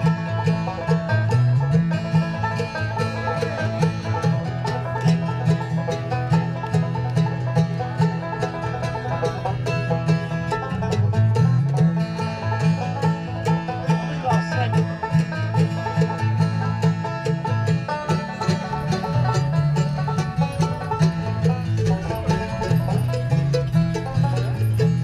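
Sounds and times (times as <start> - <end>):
acoustic guitar: 0.0 - 25.0
fast picked banjo: 0.0 - 25.0
mandolin: 0.0 - 25.0
upright bass walking: 0.0 - 25.0.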